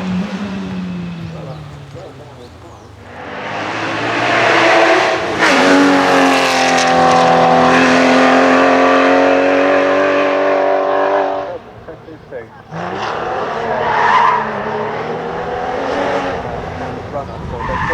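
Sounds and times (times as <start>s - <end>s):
racing car engine high-revving: 0.0s - 17.9s.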